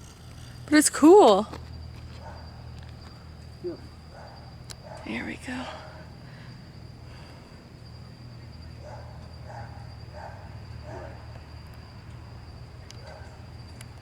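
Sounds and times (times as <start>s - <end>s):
low steady hum: 0.0s - 14.0s
night insects trilling: 0.0s - 14.0s.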